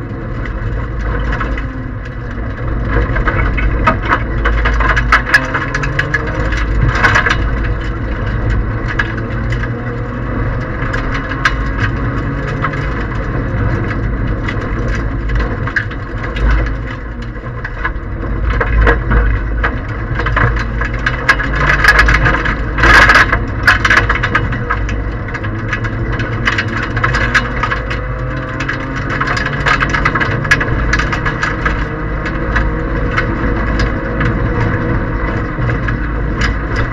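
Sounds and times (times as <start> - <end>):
rally car engine running hard: 0.0 - 36.9.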